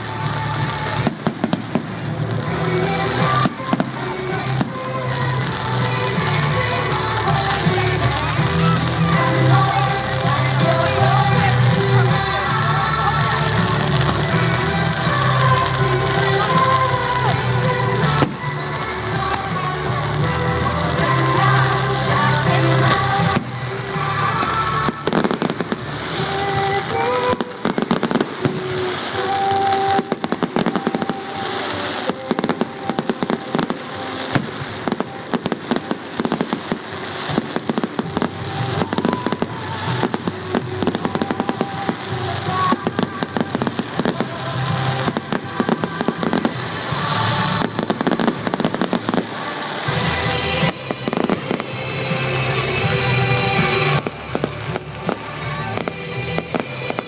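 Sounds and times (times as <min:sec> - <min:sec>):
fireworks bangs and crackling: 0:00.0 - 0:57.0
music playing: 0:00.0 - 0:57.0.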